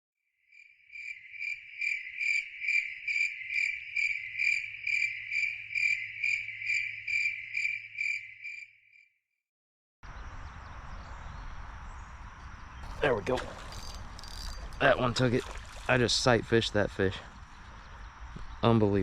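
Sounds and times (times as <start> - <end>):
cricket chirping: 0.5 - 9.1, 10.1 - 19.0.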